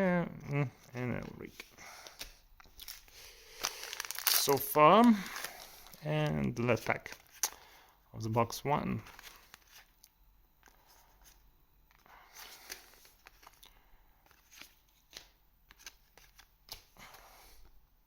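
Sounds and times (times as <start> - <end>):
cards and foil wrapper rustling: 0.8 - 7.8, 9.0 - 10.0, 10.6 - 17.3.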